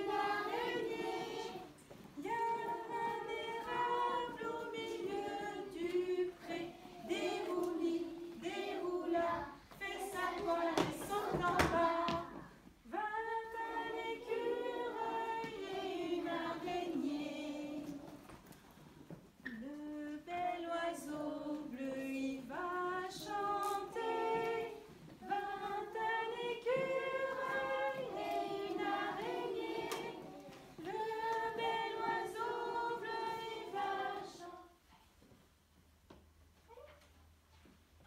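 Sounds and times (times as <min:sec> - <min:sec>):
women and children singing: 0:00.0 - 0:18.6, 0:19.4 - 0:34.9.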